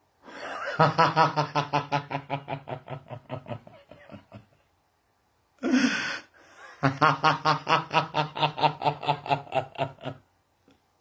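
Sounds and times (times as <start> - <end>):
person laughing: 0.3 - 4.7, 5.6 - 10.2.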